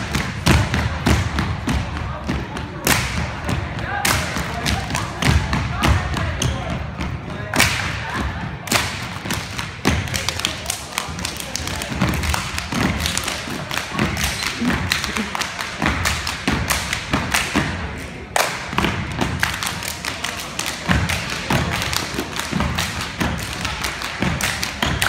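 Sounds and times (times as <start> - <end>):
people clapping in unison: 2.8 - 5.5, 7.5 - 25.0.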